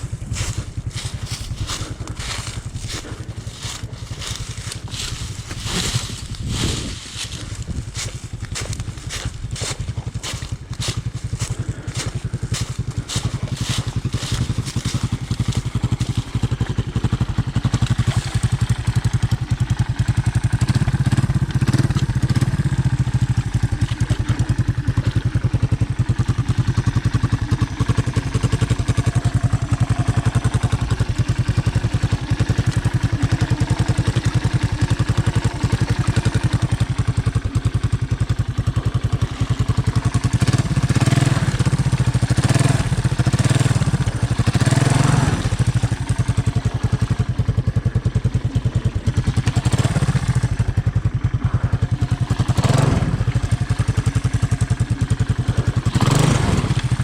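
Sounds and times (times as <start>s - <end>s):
engine running: 0.0s - 57.0s
rapid crackling clatter: 0.0s - 57.0s.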